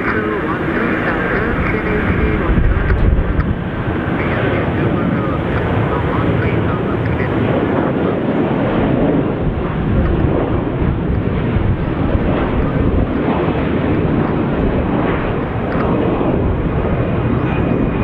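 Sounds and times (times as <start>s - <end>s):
jet engines during takeoff: 0.0s - 18.0s.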